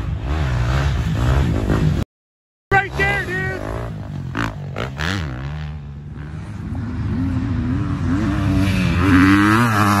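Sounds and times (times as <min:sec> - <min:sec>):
dirt bike engine accelerating: 0:00.0 - 0:02.0, 0:02.7 - 0:10.0.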